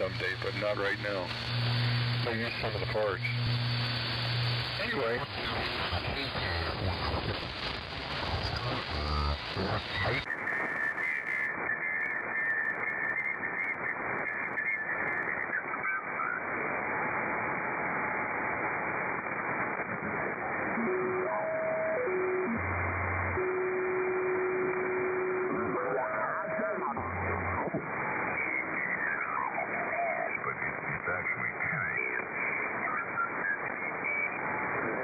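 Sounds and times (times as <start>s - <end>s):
radio band noise hiss: 0.0s - 35.0s.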